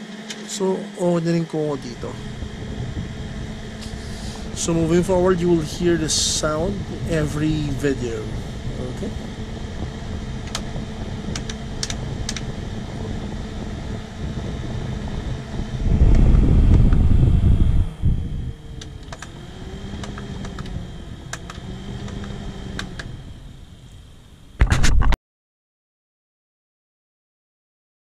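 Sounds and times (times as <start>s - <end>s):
small fan humming: 0.0s - 24.6s.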